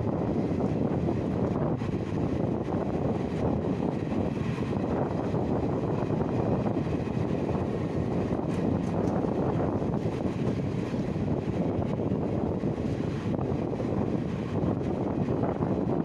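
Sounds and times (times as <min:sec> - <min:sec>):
train wheels rushing on rail: 0:00.0 - 0:16.0
wind buffeting microphone: 0:00.0 - 0:16.0.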